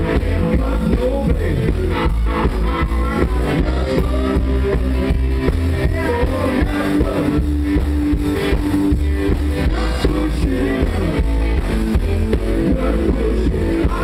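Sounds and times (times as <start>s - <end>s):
country rock band playing: 0.0s - 14.0s.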